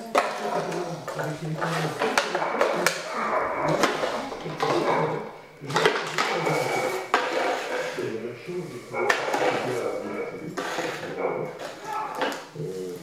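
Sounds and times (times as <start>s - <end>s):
plastic knocking on tiles: 0.0s - 8.0s, 9.0s - 12.6s
plastic bottles crackling: 0.0s - 13.0s.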